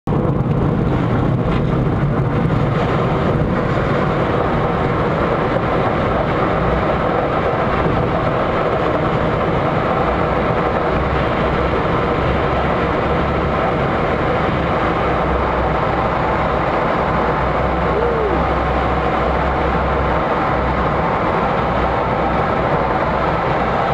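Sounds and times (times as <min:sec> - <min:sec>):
glider cockpit rumble: 0:00.0 - 0:23.9
rushing air: 0:00.1 - 0:23.9.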